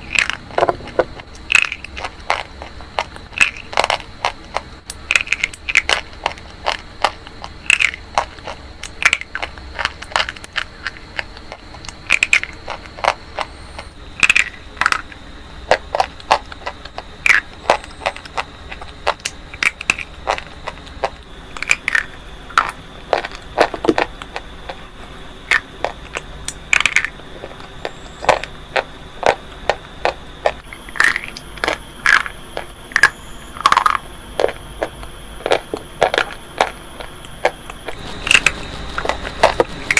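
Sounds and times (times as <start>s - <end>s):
crunching crackles and snaps: 0.0s - 39.9s.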